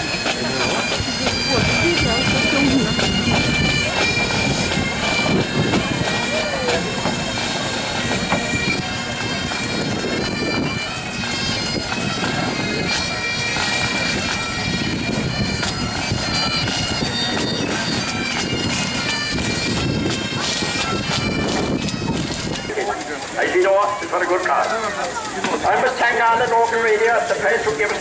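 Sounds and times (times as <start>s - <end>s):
bagpipes playing: 0.0s - 28.0s.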